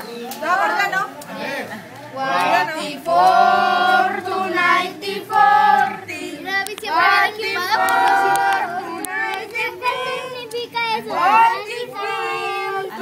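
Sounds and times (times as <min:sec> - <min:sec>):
children singing together: 0:02.2 - 0:13.0.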